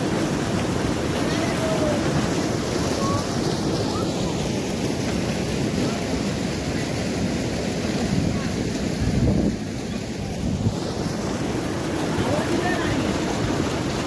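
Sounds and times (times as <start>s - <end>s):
waterfall rushing into stream: 0.0s - 14.0s.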